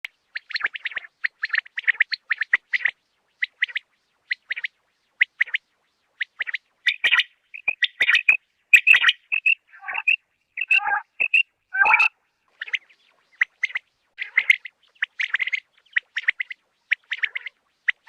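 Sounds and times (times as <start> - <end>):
quail chirping: 0.4 - 4.7, 6.3 - 18.0.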